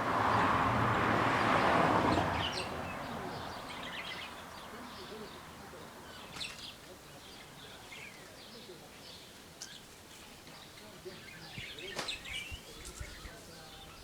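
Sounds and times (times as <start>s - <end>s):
faint outdoor background noise: 0.0s - 14.0s
small birds chirping: 0.3s - 14.0s.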